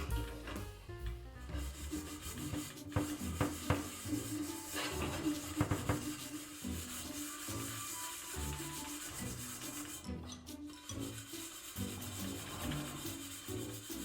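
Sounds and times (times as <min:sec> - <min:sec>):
soft background music: 0:00.0 - 0:14.0
hand scrubbing strokes: 0:01.4 - 0:14.0.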